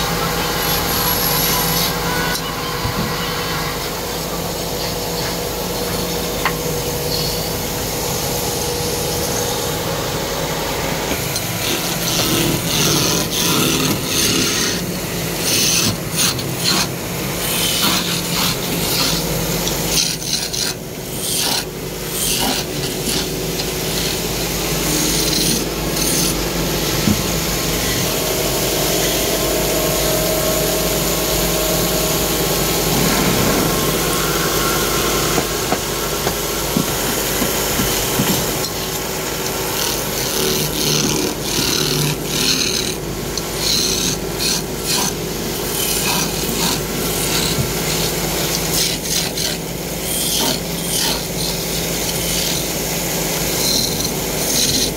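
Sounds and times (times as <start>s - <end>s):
lathe motor hum: 0.0s - 48.7s.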